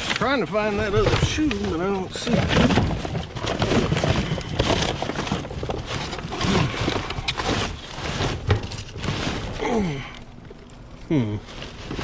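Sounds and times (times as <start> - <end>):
plastic items clattering: 0.0 - 12.0
trash rustling: 0.0 - 12.0.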